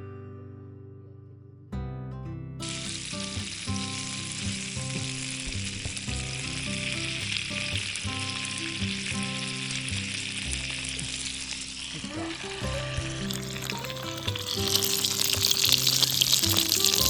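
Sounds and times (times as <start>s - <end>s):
acoustic guitar music: 0.0s - 17.0s
food sizzling in a pan: 2.7s - 17.0s.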